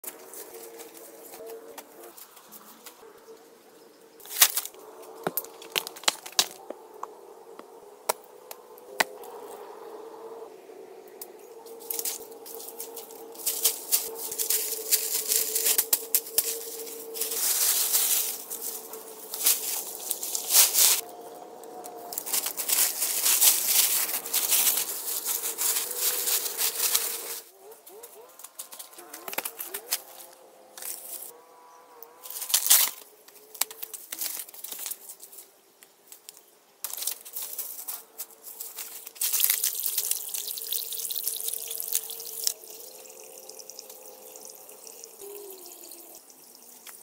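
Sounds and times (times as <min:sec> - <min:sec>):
dry leaves rustling and crackling: 0:00.0 - 0:03.5, 0:04.2 - 0:31.4, 0:32.2 - 0:47.0
faint steady hum: 0:00.0 - 0:47.0.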